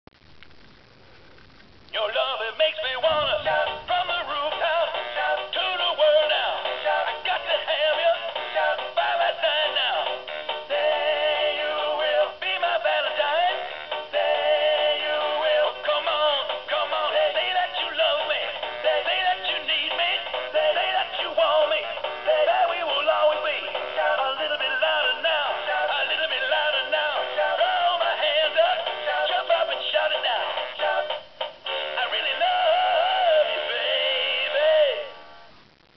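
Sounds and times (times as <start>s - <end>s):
toy speaker singing over music: 2.0s - 35.4s.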